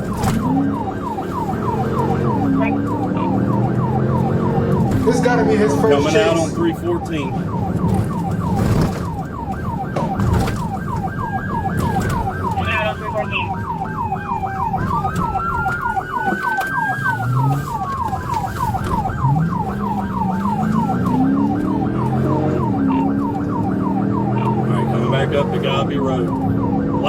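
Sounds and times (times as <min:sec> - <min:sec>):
police siren fast yelp: 0:00.0 - 0:27.0
siren slow wail: 0:00.0 - 0:27.0.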